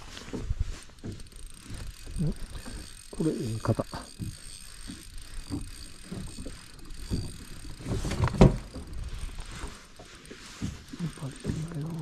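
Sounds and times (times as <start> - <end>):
fishing reel cranking: 0.0 - 12.0.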